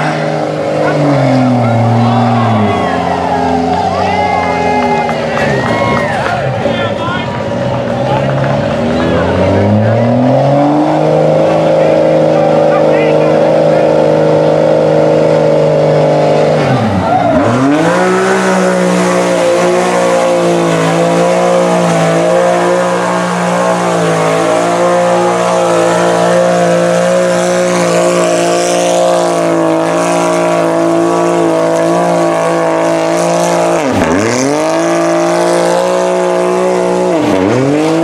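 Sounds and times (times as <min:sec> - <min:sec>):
engine at high revs: 0:00.0 - 0:38.0.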